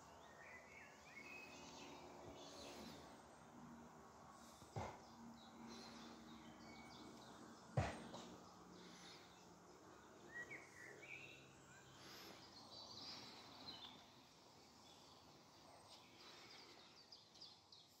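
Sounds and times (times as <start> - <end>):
faint woodland ambience: 0.0 - 18.0
quiet bird chirps: 0.0 - 18.0.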